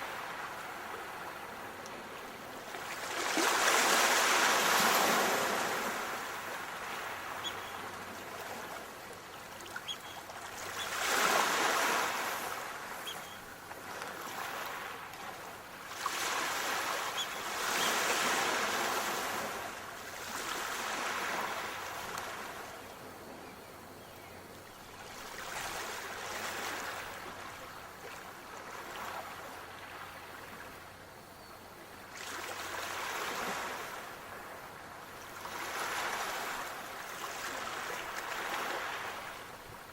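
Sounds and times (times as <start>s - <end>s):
sea waves washing ashore: 0.0s - 23.2s, 25.0s - 30.9s, 32.0s - 39.9s.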